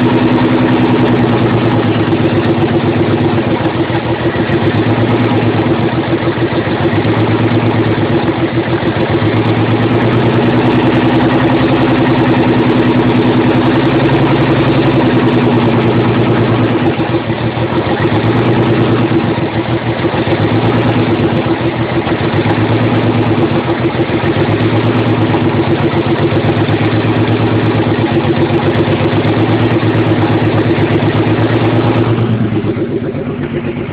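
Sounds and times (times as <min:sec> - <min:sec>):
car engine idling rough: 0:00.0 - 0:33.9.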